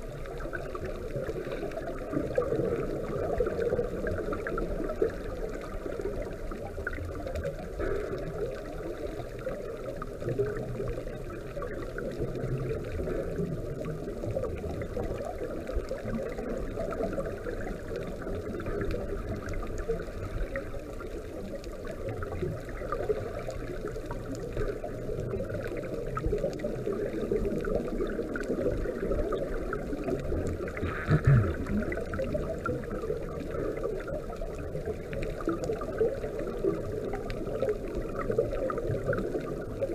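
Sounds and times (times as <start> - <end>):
low underwater gurgle: 0.0 - 39.9
underwater bubbling and rushing: 0.0 - 39.9.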